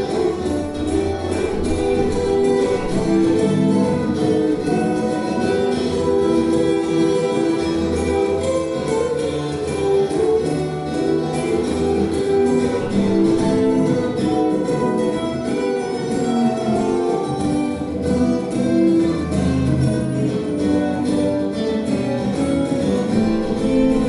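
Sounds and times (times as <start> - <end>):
acoustic guitars playing duet: 0.0 - 24.0.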